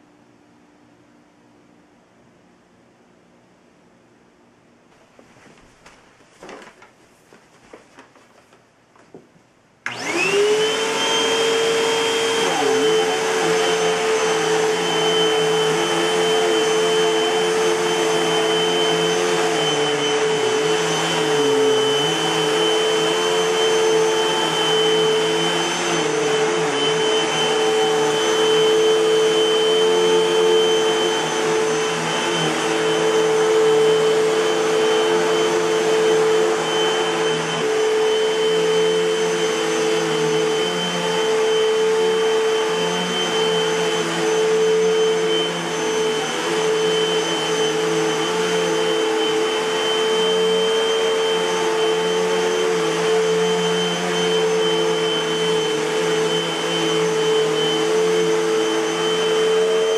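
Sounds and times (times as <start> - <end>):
vacuum cleaner motor whining: 9.8 - 59.9.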